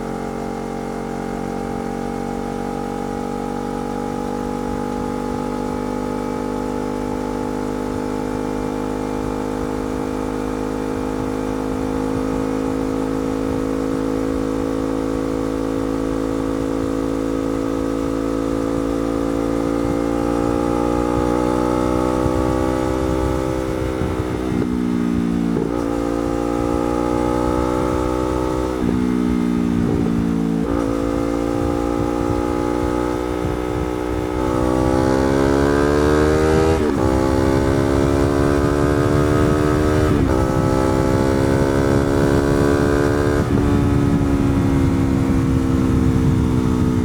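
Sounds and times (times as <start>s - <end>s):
motorcycle engine under load: 0.0s - 47.0s.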